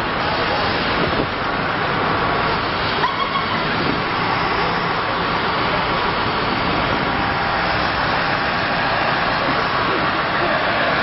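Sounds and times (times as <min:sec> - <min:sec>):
heavy vehicle engine and road noise: 0:00.0 - 0:11.0.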